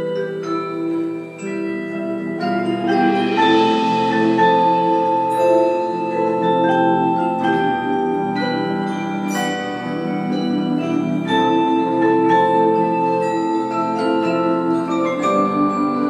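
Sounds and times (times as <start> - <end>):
mallet percussion ensemble playing: 0.0 - 16.0.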